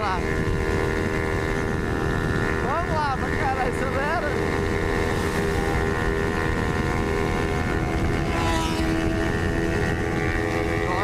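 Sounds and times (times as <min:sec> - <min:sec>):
motorcycle engine at high revs: 0:00.0 - 0:11.0
wind rushing over microphone: 0:00.0 - 0:11.0.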